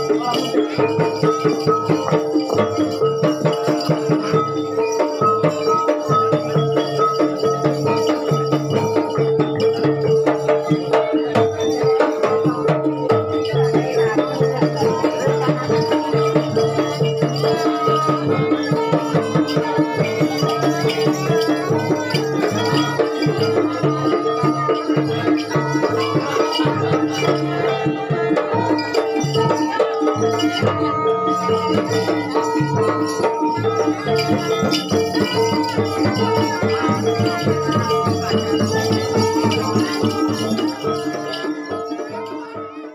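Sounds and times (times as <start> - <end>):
rhythmic drumming and percussion: 0.0 - 42.9
gamelan-style ensemble playing: 6.8 - 42.9.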